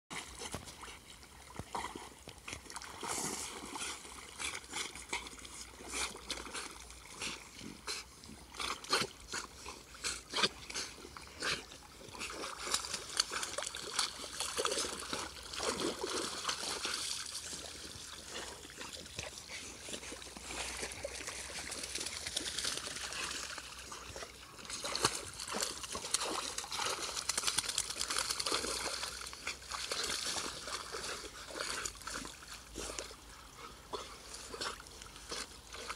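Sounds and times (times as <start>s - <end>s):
dogs splashing in water: 0.1s - 35.9s.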